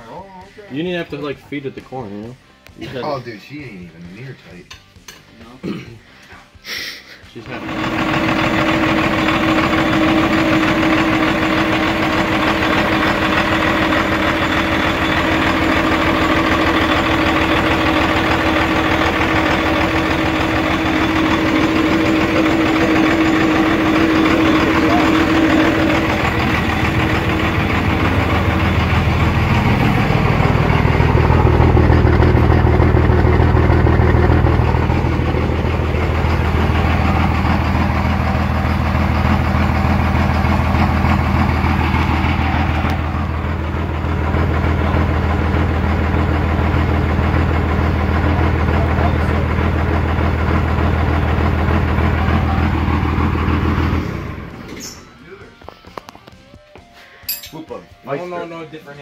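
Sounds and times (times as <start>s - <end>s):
diesel engine idling: 7.5s - 55.2s.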